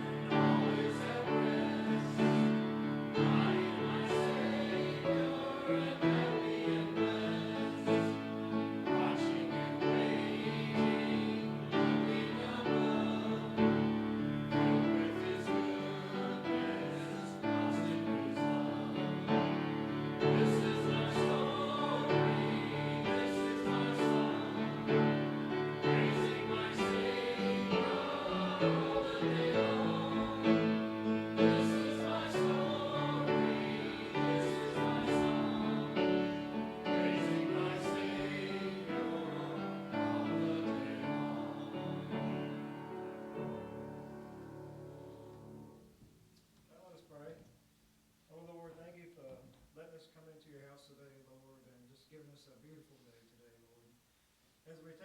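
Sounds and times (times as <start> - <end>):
choir singing with accompaniment: 0.0 - 45.9.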